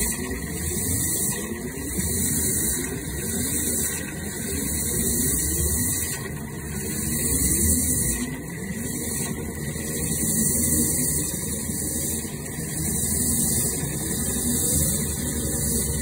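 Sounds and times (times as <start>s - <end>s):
drain jetter water hissing: 0.0s - 16.0s
steady machine drone: 0.0s - 16.0s.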